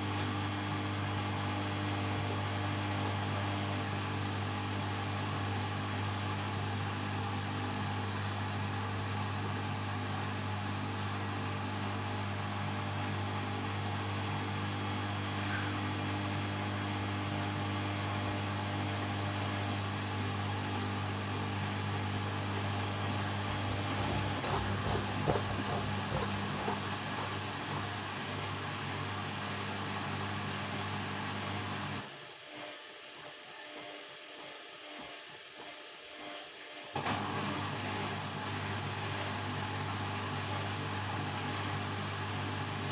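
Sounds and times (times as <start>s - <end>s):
washing machine humming: 0.0s - 42.9s.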